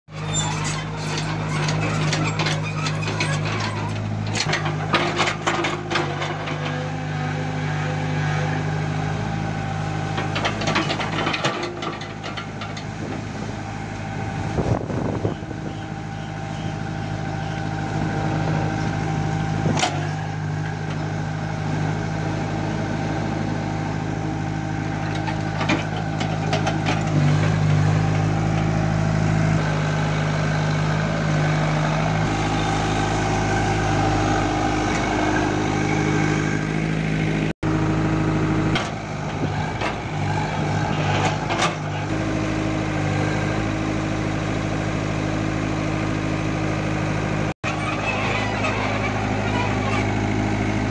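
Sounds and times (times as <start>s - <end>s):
excavator diesel engine running: 0.1s - 50.9s.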